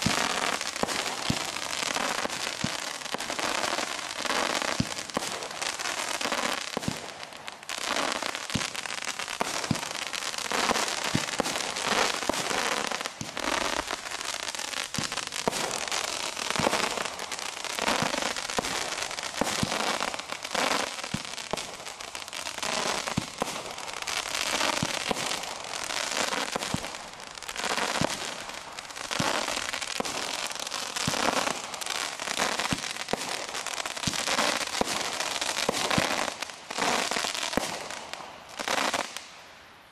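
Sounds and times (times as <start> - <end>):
fireworks crackling bursts: 0.0 - 39.9.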